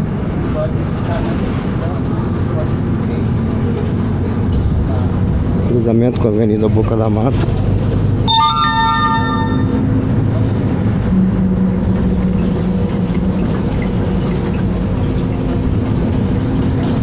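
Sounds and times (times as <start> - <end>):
bus engine running: 0.0 - 8.2, 10.0 - 17.0.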